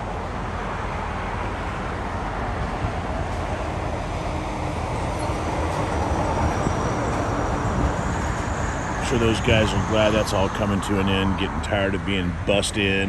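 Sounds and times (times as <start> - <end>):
distant engine roar: 0.0 - 13.0.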